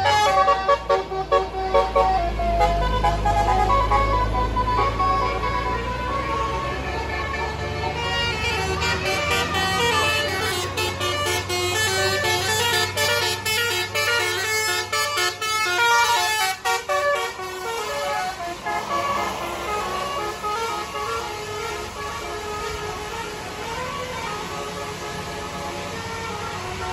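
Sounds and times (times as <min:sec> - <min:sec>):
bus engine running: 0:00.0 - 0:26.9
musical air horn tune: 0:00.0 - 0:26.9.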